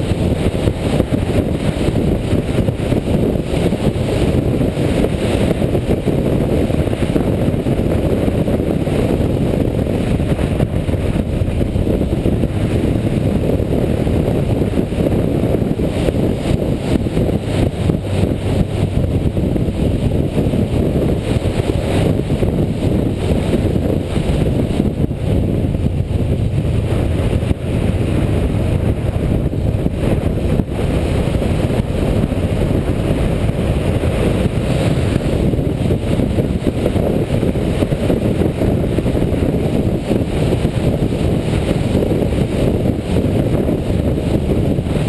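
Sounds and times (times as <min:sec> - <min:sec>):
motorcycle engine rumble: 0:00.0 - 0:45.0
wind buffeting microphone: 0:00.0 - 0:45.0.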